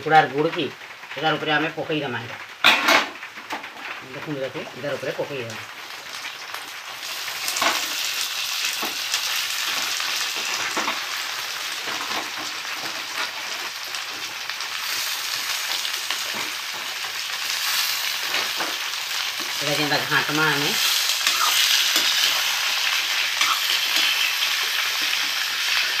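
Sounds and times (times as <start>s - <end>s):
food sizzling in hot oil: 0.0s - 26.0s
sharp oil crackles: 0.4s - 26.0s.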